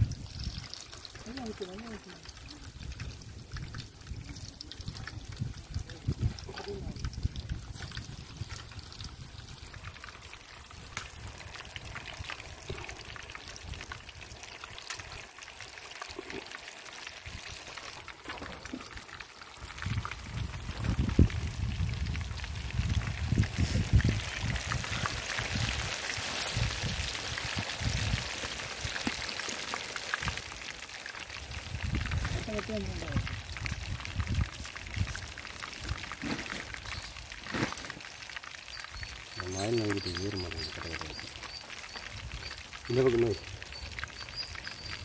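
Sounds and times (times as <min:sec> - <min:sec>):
deep-frying sizzle in oil: 0:00.0 - 0:45.0.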